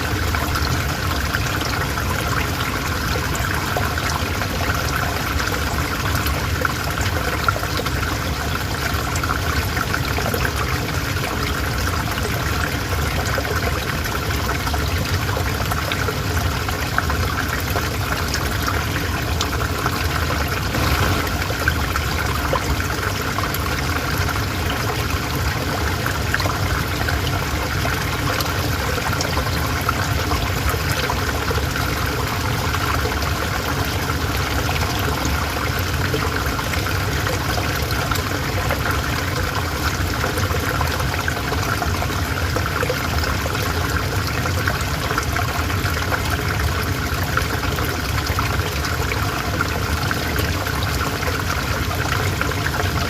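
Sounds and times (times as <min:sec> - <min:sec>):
river water trickling: 0:00.0 - 0:53.0.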